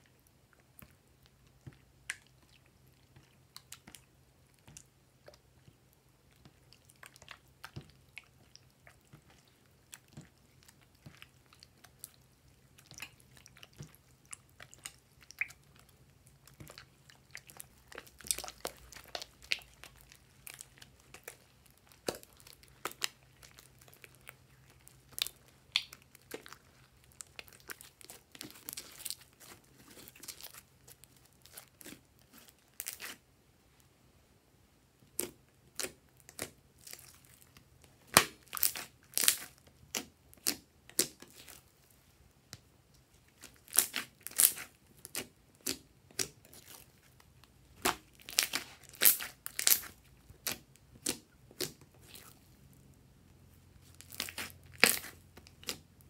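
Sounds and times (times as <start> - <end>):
slime squelching: 0.0 - 33.3, 35.0 - 56.0.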